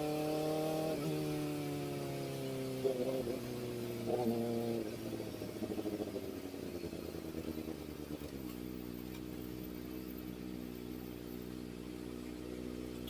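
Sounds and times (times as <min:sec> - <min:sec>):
motorcycle engine revving down and idling: 0:00.0 - 0:13.0.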